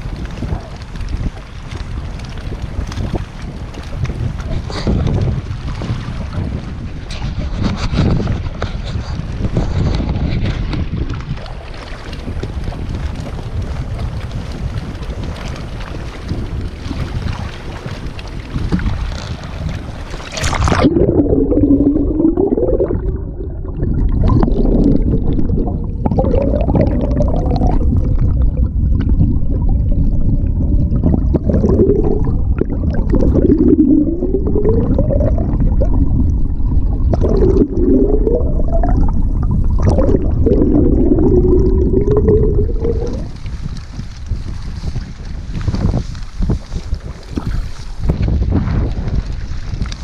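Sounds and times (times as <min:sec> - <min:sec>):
muffled rush of water: 0:00.0 - 0:50.0.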